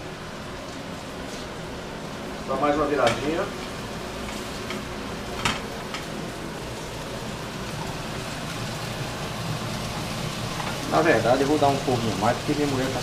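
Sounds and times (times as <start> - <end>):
patties sizzling in pans: 0.2 - 13.0.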